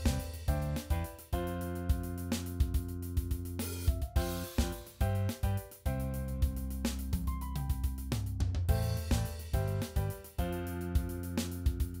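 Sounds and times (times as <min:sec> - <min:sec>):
drum hits: 0:00.0 - 0:12.0.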